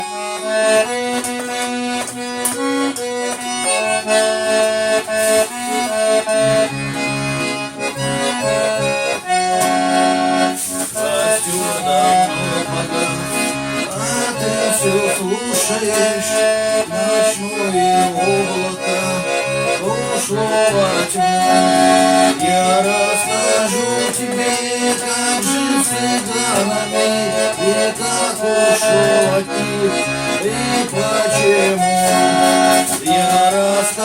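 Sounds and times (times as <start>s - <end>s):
accordion playing: 0.0s - 34.0s.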